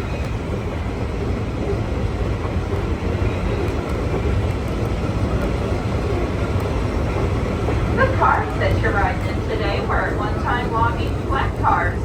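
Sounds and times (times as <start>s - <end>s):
rail car rumbling and rattling: 0.0s - 12.0s.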